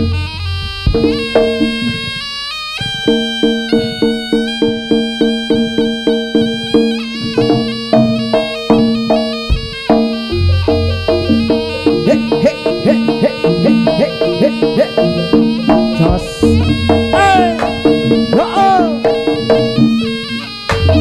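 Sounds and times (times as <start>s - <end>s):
held low tones: 0.0s - 21.0s
reedy shawm melody: 0.0s - 21.0s
steady percussion: 0.0s - 21.0s.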